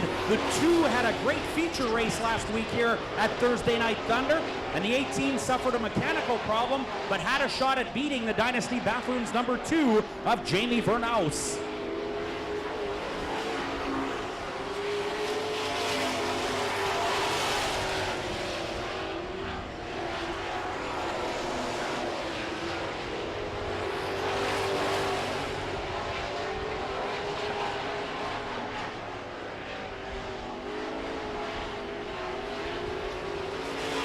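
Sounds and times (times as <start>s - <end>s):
race truck engines droning: 0.0s - 34.0s.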